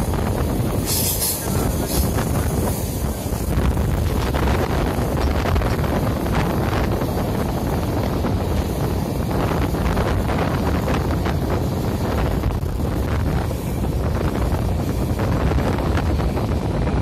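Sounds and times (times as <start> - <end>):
train rumbling on track: 0.0 - 17.0
wind buffeting microphone: 0.0 - 17.0.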